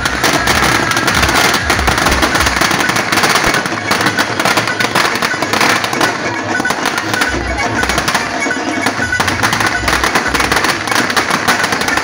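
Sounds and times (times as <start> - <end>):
firecrackers going off: 0.0 - 12.0
music: 0.0 - 12.0.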